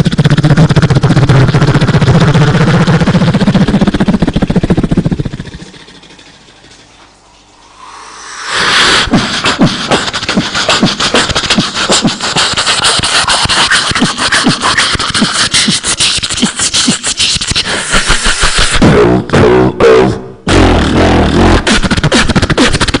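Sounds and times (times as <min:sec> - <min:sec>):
beatboxing: 0:00.0 - 0:06.2, 0:08.1 - 0:23.0.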